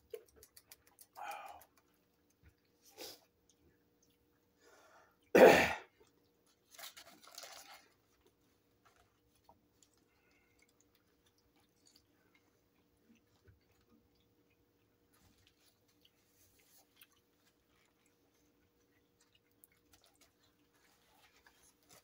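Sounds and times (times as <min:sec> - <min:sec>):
people chewing: 0:00.0 - 0:05.3, 0:05.9 - 0:22.0.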